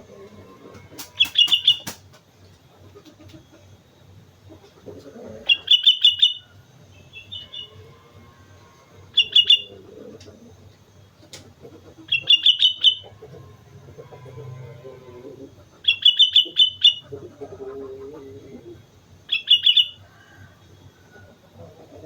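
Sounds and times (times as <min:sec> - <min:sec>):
bulbul singing: 0:00.0 - 0:02.1, 0:05.4 - 0:11.2, 0:12.0 - 0:21.8.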